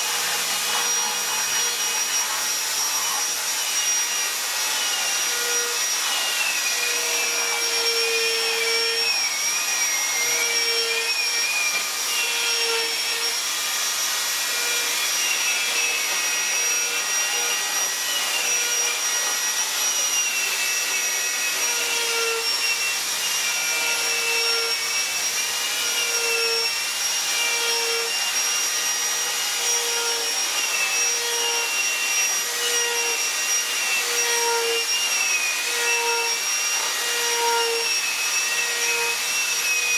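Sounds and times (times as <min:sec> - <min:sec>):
rotary tool whining against wood: 0:00.0 - 0:39.9.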